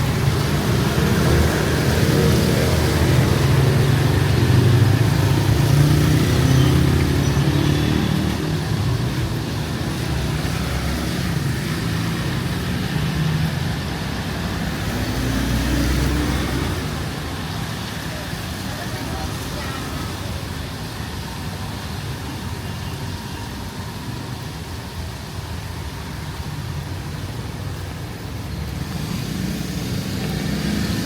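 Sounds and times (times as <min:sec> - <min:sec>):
vehicle approaching: 0:00.0 - 0:19.6, 0:25.2 - 0:31.0.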